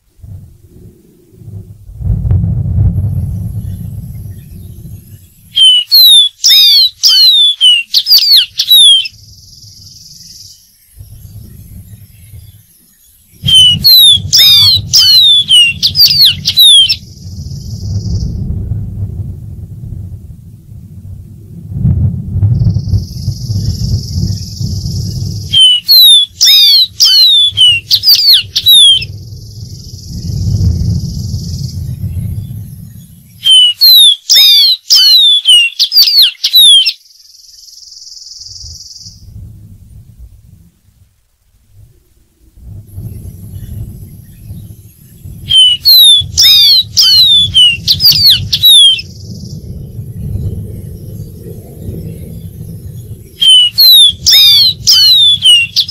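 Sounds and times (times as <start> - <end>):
low rumble: 0.0 - 5.6, 9.1 - 33.6, 38.4 - 55.9
steady high hiss: 0.0 - 34.3, 37.0 - 54.9
bird whistling song: 3.1 - 18.4, 22.5 - 39.3, 43.1 - 55.9.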